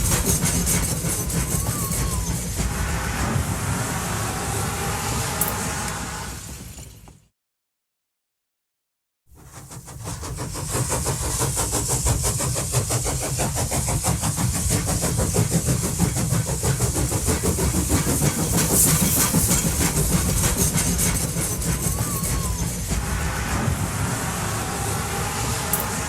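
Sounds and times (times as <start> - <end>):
locomotive engine running: 0.0 - 7.1, 9.8 - 26.0.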